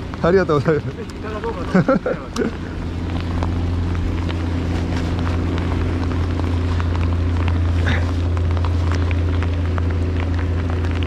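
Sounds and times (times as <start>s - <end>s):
low drone: 0.0s - 11.0s
raindrops ticking on camera: 0.0s - 11.0s.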